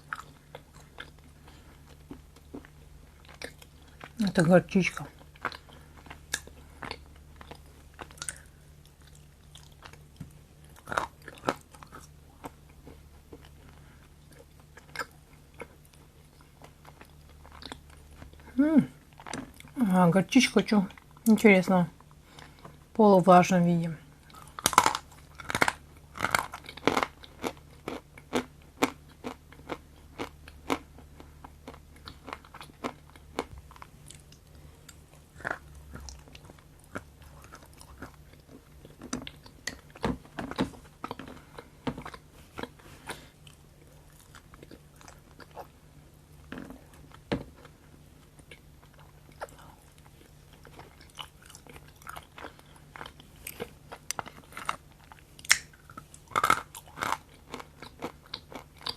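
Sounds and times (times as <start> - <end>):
chewing crunchy chocolate: 0.0 - 23.0, 24.0 - 58.9.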